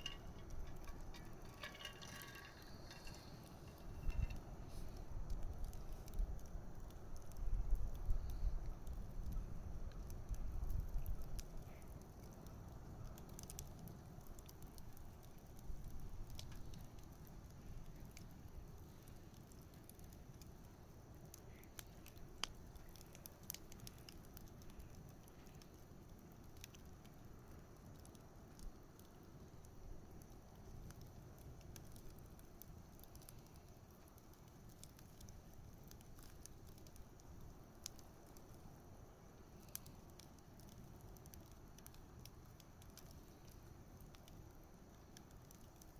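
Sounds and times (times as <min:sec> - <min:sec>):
bonfire crackles and pops: 0:00.0 - 0:45.9
fire low rumble: 0:00.0 - 0:45.9.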